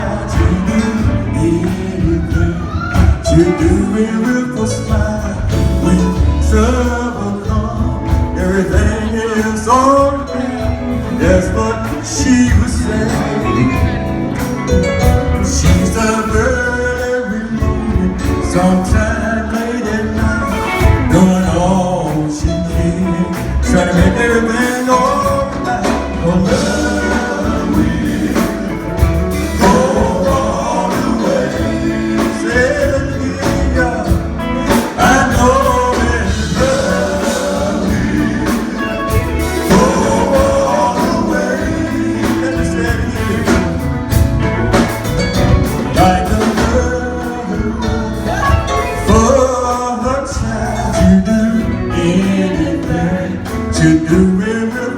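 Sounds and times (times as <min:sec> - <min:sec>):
gospel group singing: 0:00.0 - 0:54.9
instrumental backing with beat: 0:00.0 - 0:54.9.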